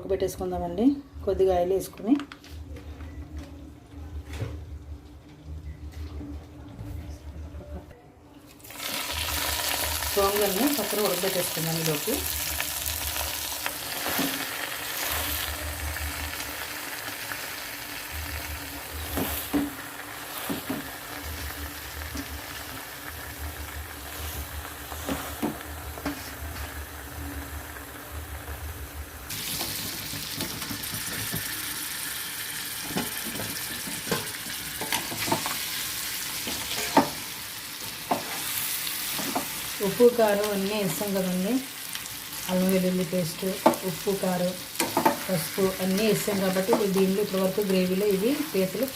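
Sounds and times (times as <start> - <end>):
food sizzling in a pan: 8.6 - 48.9.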